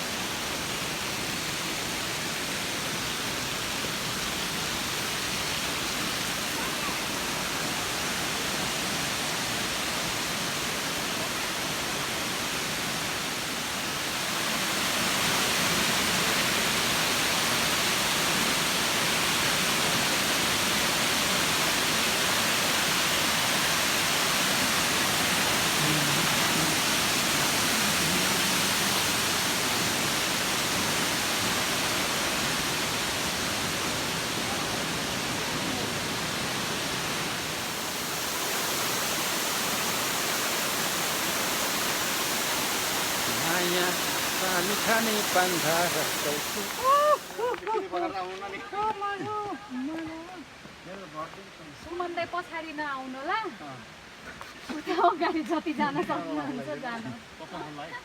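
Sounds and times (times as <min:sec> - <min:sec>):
waterfall rushing: 0:00.0 - 0:47.6.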